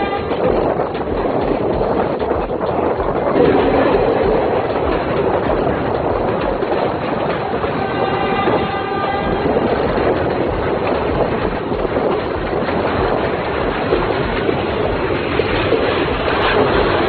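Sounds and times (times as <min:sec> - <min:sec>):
train carriages rumbling and rattling: 0:00.0 - 0:17.0.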